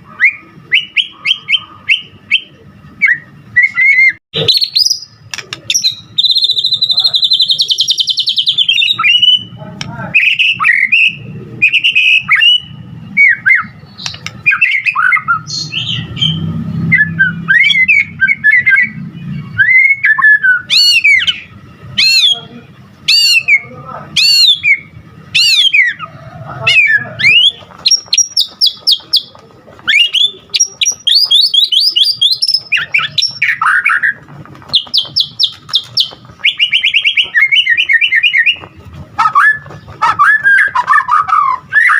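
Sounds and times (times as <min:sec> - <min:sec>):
bird singing varied song: 0:00.0 - 0:41.9.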